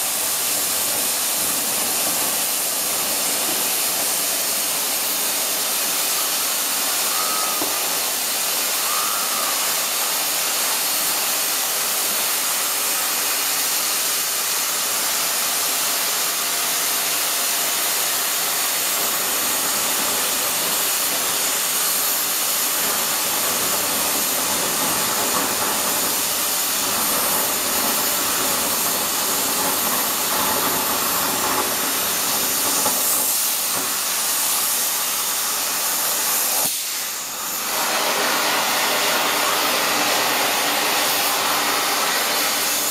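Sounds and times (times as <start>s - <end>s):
cutting torch gas jet hiss: 0.0s - 42.9s.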